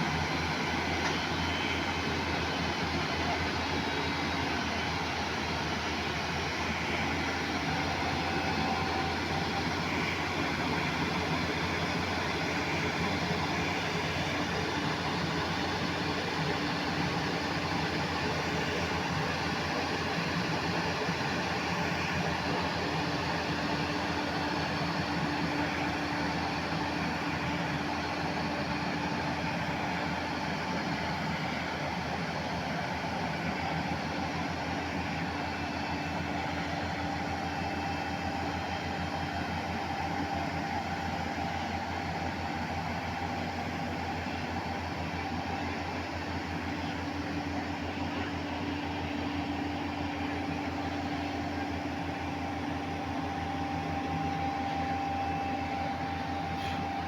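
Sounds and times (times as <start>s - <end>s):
diesel engine droning: 0.0s - 57.0s
faint steady whine: 0.0s - 57.0s.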